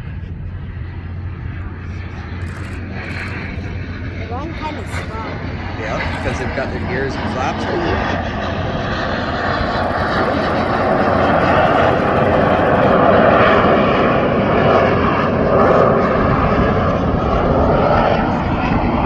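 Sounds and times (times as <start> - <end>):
jets flying past: 0.8 - 19.0.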